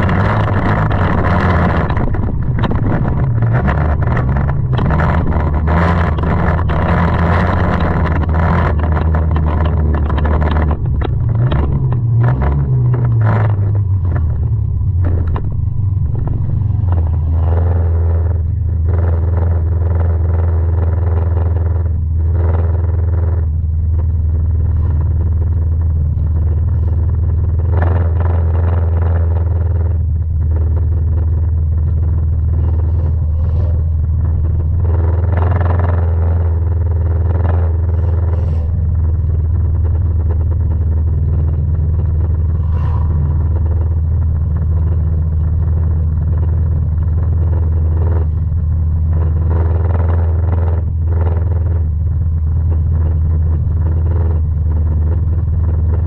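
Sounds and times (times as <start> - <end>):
engine clatter bursts: 0.0 - 56.0
race car engine droning: 0.0 - 56.0.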